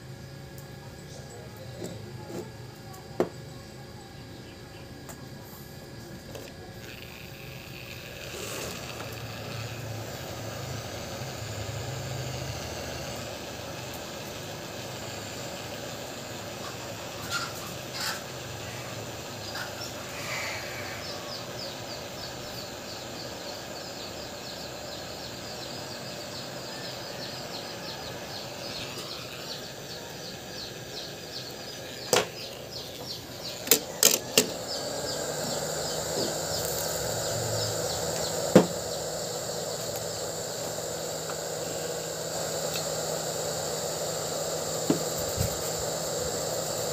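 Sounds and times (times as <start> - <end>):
hot-air gun hissing: 5.0 - 46.9.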